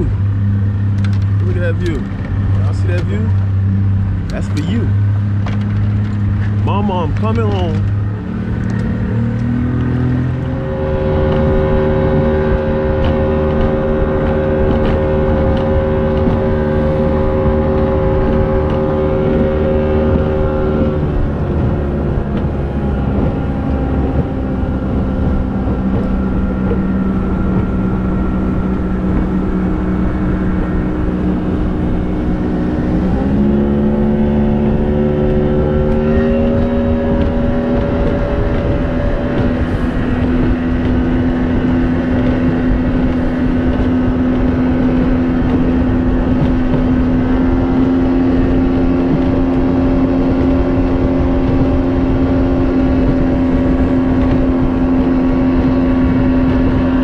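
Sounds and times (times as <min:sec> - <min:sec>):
boat motor droning: 0:00.0 - 0:57.0.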